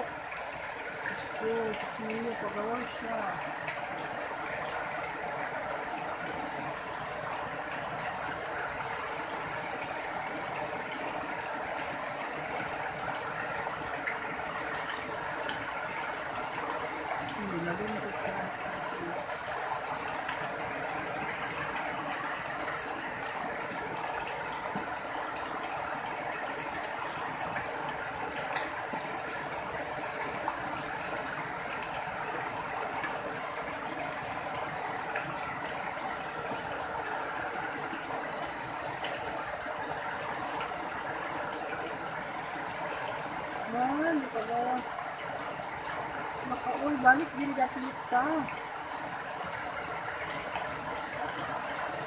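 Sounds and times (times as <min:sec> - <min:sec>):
heavy rain falling on water: 0:00.0 - 0:52.0.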